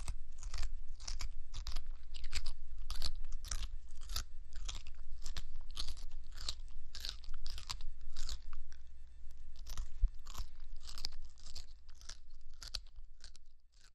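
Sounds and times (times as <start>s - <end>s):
grasshopper chewing leaf: 0.0s - 13.9s.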